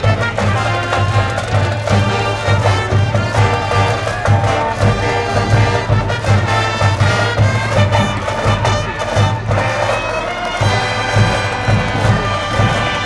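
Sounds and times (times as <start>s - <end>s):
bass drum beat: 0.0s - 13.0s
brass band playing: 0.0s - 13.0s.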